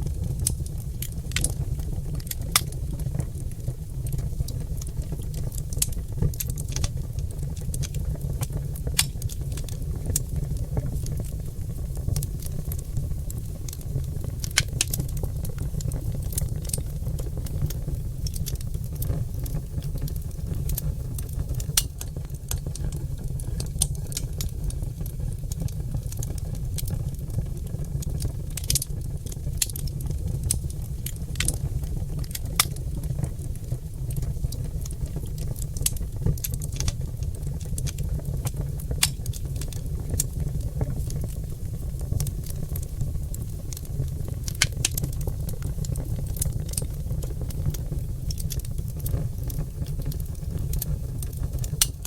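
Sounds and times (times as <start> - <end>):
fire low rumble: 0.0 - 52.0
logs crackling and popping: 0.0 - 52.0.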